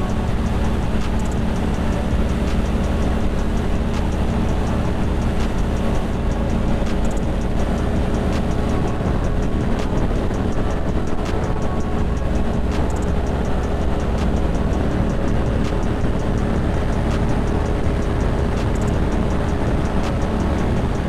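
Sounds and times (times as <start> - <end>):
motorcycle engine cruising: 0.0 - 21.0
road noise: 0.0 - 21.0.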